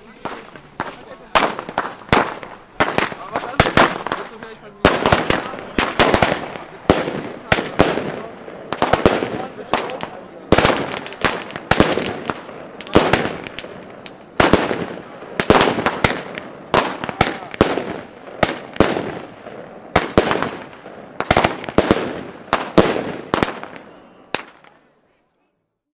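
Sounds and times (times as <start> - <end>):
fireworks banging and cracking: 0.0 - 24.9.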